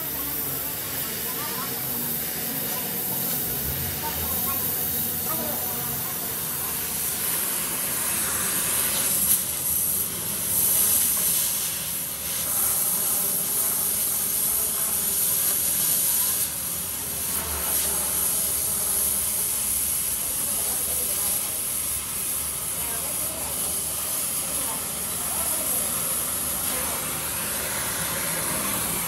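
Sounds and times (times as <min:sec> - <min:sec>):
cutting torch hissing: 0:00.0 - 0:29.0.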